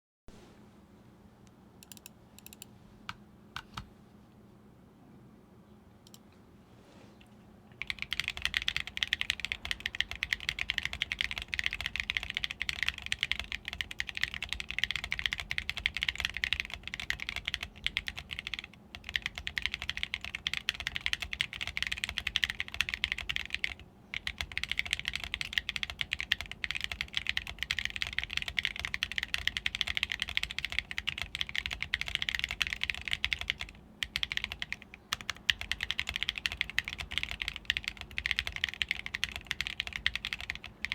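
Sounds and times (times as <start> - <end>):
fast mechanical keyboard typing: 7.8 - 40.9.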